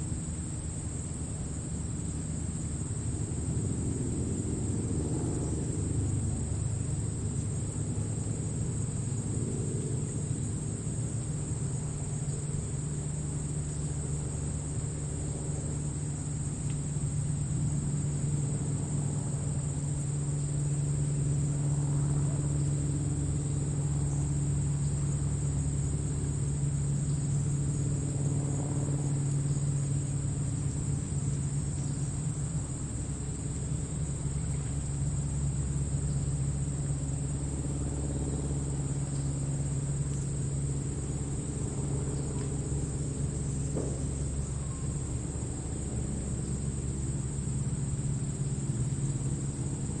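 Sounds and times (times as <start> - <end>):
crickets chirring: 0.0 - 50.0.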